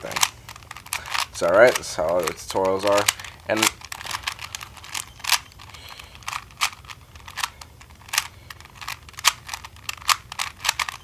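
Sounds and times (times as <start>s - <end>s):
puzzle cube clicking: 0.0s - 11.0s.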